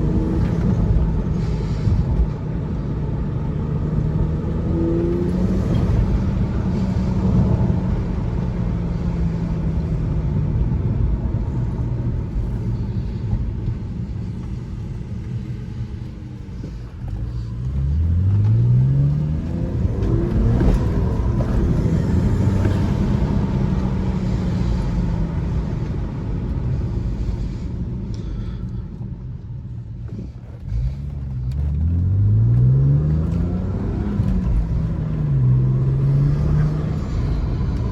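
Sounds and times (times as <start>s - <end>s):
car engine accelerating hard: 0.0s - 28.0s, 30.0s - 37.9s.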